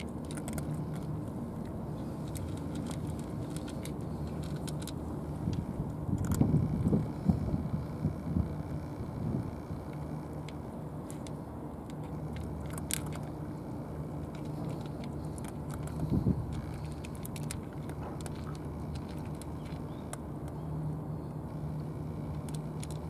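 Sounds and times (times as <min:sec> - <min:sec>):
cats crunching dry kibble: 0:00.0 - 0:23.0
low mechanical hum: 0:00.0 - 0:23.0.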